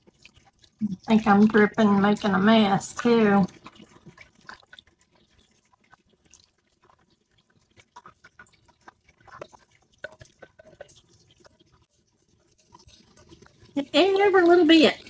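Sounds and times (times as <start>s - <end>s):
thick gravy plopping: 0.0s - 15.0s
rubber spatula scraping bowl: 0.8s - 15.0s.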